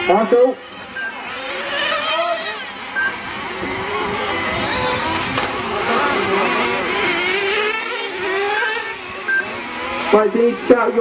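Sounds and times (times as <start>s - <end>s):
rc car engines whining: 0.0s - 11.0s.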